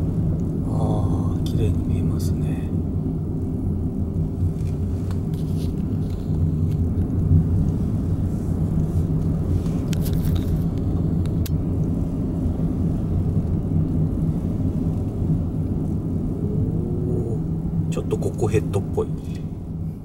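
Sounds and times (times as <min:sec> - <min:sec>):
car engine and road drone: 0:00.0 - 0:20.0.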